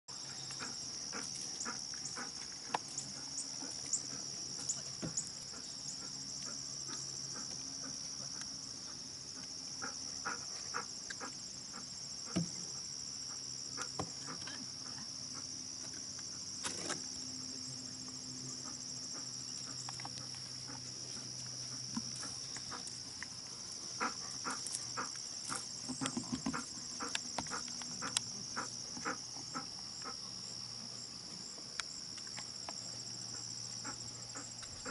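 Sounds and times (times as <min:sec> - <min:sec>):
insect chorus chirring: 0:00.1 - 0:34.9.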